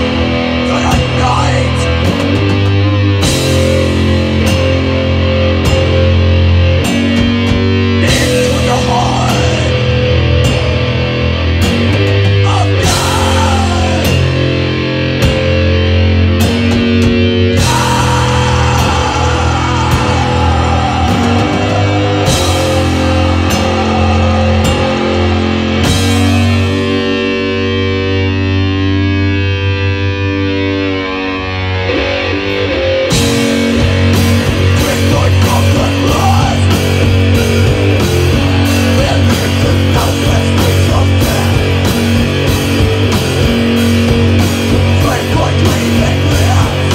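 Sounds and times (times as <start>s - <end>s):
fast drumming: 0.0s - 15.6s, 16.4s - 27.2s, 33.1s - 46.9s
heavy metal band playing live: 0.0s - 46.9s
ringing guitar chords: 0.0s - 46.9s.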